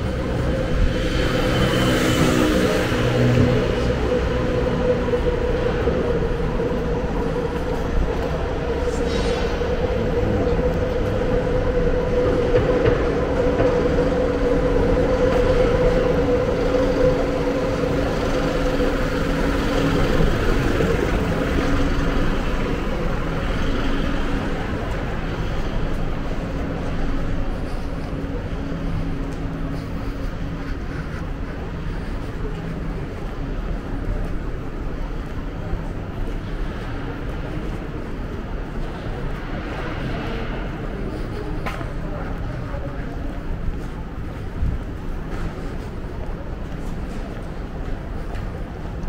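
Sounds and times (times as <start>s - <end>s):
city street noise: 0.0s - 49.0s
continuous mechanical hum: 0.0s - 49.0s.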